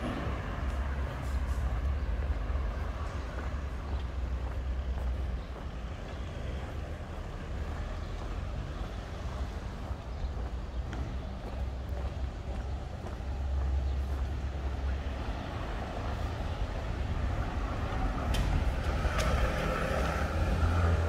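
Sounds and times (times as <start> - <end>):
motor traffic rumble: 0.0 - 21.0
vehicle approaching: 0.0 - 21.0.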